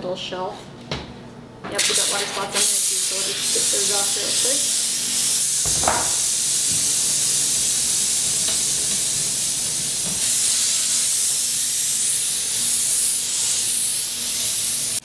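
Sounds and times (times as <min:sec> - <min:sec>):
steam cleaner hissing: 0:01.8 - 0:15.0.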